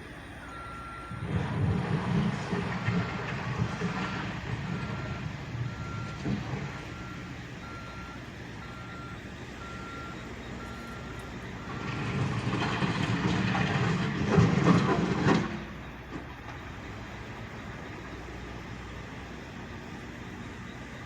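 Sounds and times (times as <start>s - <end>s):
backhoe engine running: 0.0s - 21.0s
reversing alarm beeping: 0.0s - 21.0s.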